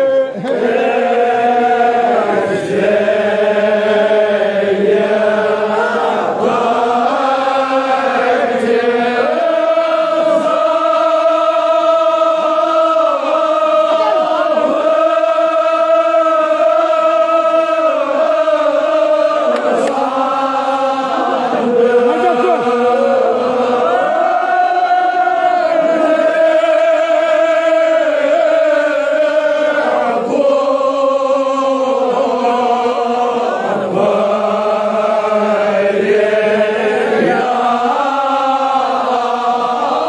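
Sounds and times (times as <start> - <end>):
crowd of men chanting: 0.0 - 40.0.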